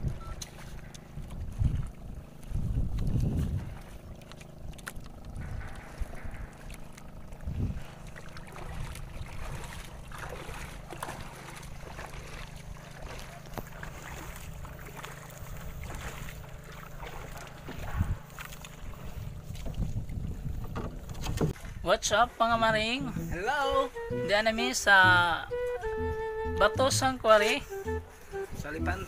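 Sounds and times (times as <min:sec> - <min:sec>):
water splashing against boat hull: 0:00.0 - 0:24.0
steady low hum: 0:00.0 - 0:29.0.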